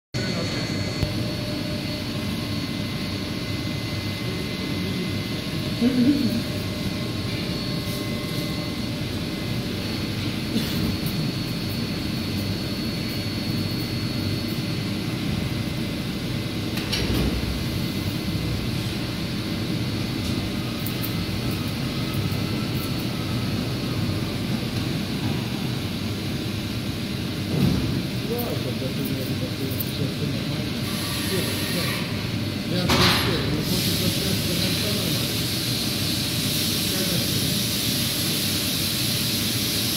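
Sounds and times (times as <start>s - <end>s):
machine mechanical drone: 0.2s - 39.9s.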